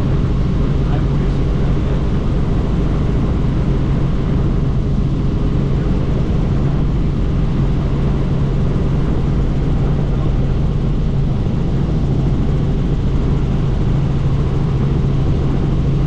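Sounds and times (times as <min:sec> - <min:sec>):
constant low hum: 0:00.0 - 0:16.0
helicopter rotor and engine: 0:00.0 - 0:16.0.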